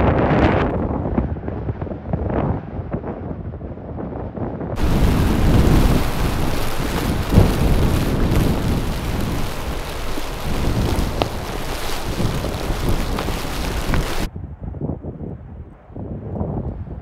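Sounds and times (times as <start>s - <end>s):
blizzard wind buffeting microphone: 0.0s - 17.0s.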